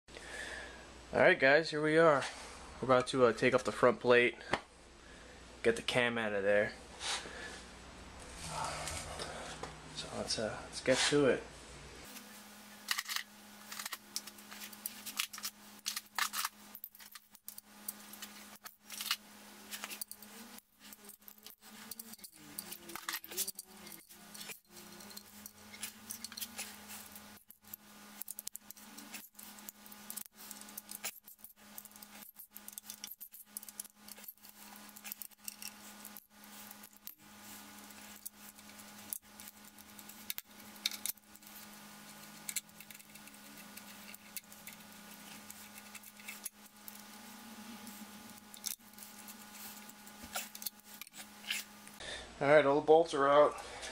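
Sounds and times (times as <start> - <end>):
steady low hum: 0.1 - 52.7.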